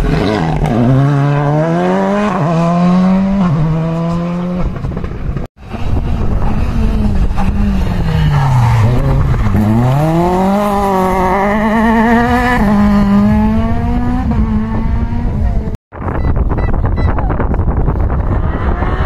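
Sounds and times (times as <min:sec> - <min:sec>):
rally car engine revving: 0:00.0 - 0:15.8, 0:18.1 - 0:19.0.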